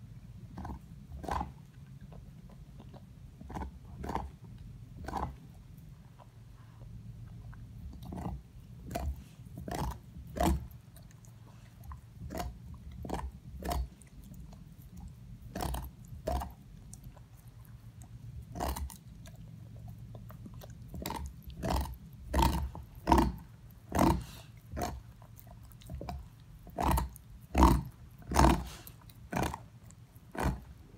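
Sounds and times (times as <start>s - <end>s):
dog gnawing on a bone: 0.5s - 30.9s.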